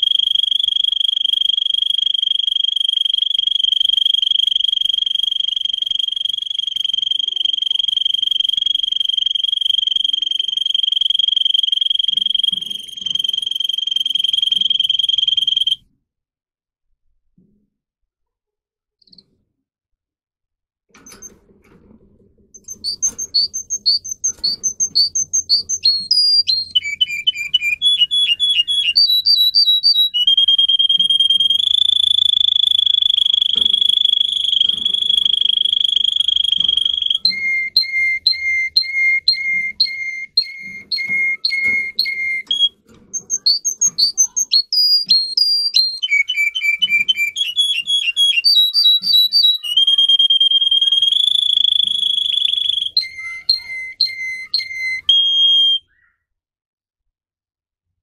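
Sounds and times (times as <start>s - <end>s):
canary singing: 0.0s - 15.8s, 22.6s - 56.2s.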